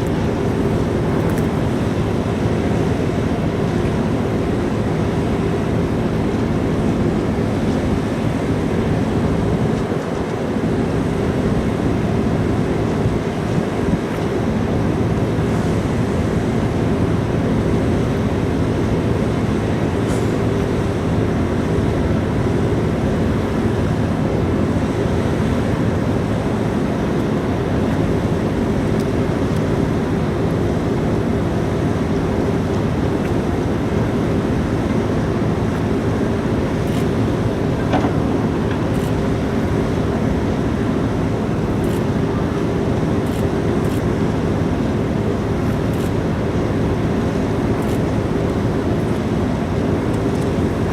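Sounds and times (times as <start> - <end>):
ferry engines rumbling: 0.0 - 50.9.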